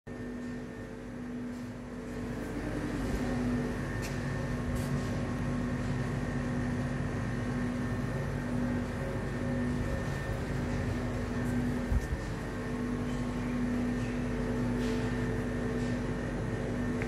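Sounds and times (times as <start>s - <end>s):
refrigerator humming: 0.1s - 17.0s.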